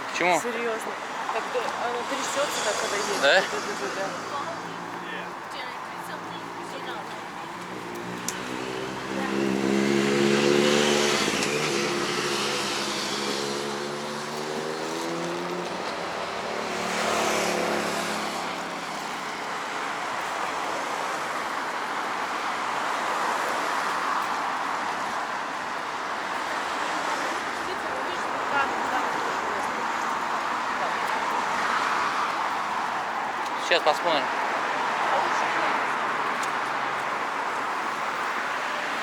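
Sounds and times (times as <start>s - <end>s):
vehicle passing: 0.0s - 19.8s, 25.6s - 39.0s
steady traffic hum: 0.0s - 39.0s.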